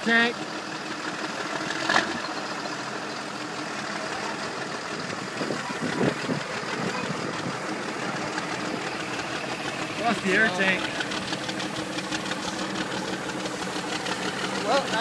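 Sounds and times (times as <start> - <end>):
bulldozer diesel engine idling: 0.0 - 15.0.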